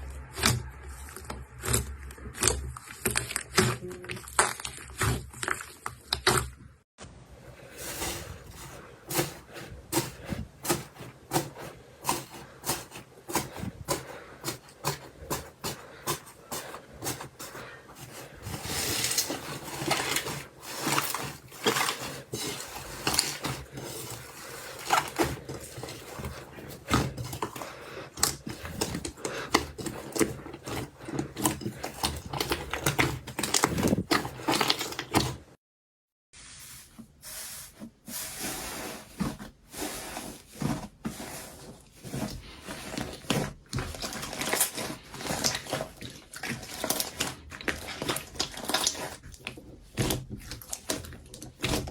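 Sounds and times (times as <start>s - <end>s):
slime squishing and crackling: 0.0s - 6.8s, 7.6s - 35.5s, 39.1s - 51.9s.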